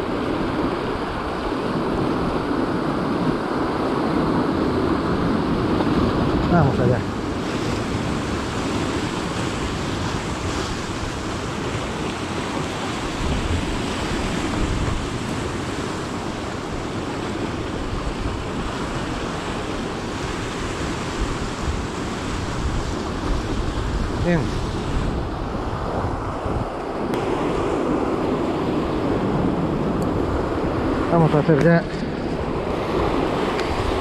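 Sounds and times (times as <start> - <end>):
surf washing against rocks: 0.0 - 34.0
wind buffeting microphone: 0.0 - 34.0.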